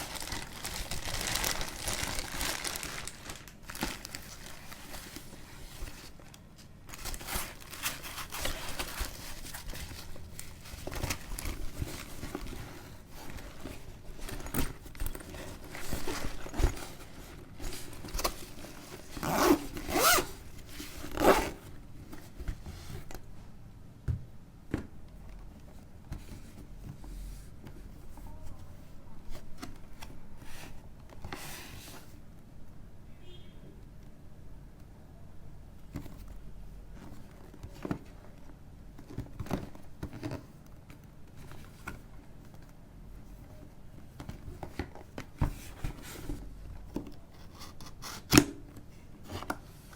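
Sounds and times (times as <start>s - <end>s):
cardboard and plastic rustling: 0.0s - 23.3s, 24.7s - 32.3s, 35.9s - 49.9s.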